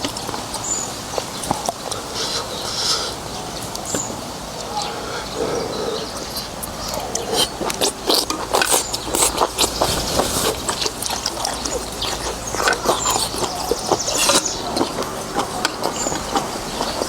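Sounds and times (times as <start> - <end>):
chewing and slurping noodles: 0.0 - 17.0
mouth clicks and smacks: 0.0 - 17.0.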